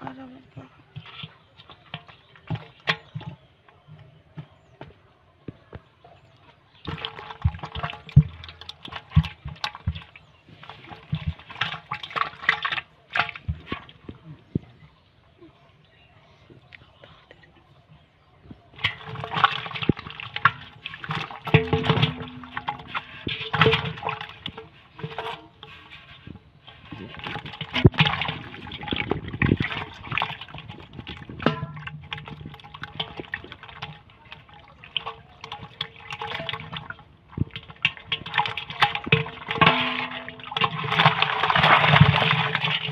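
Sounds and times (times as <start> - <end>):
slimy fish squelching and sloshing: 0.2 - 4.8, 5.6 - 15.7, 17.6 - 42.9.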